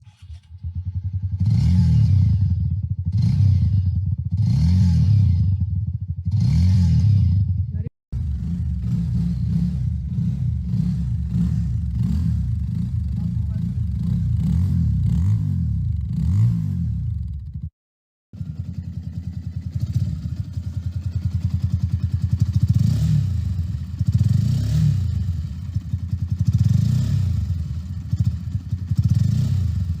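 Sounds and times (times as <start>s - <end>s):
motorcycle idling and revving: 0.0s - 17.7s, 18.4s - 30.0s.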